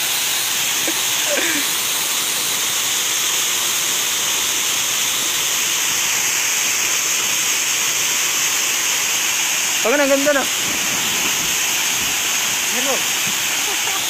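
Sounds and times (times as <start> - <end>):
waterfall rushing over rock: 0.0 - 14.0.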